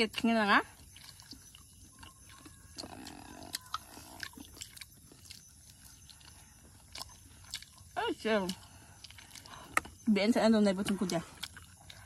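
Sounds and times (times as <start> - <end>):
people chewing chicken: 0.0 - 12.0.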